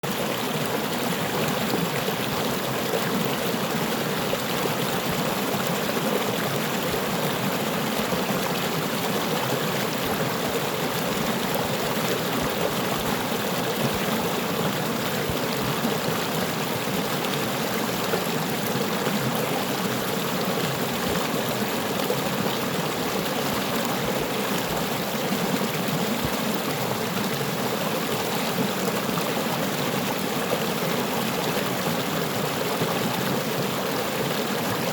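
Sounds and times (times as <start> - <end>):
stream babbling over stones: 0.1 - 34.9.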